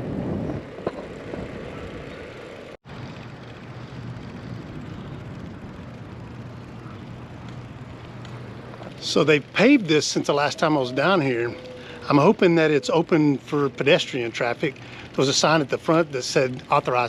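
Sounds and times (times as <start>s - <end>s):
wind and road rush: 0.0s - 12.4s, 13.4s - 17.0s
bicycle click: 0.6s - 12.2s, 13.1s - 17.0s.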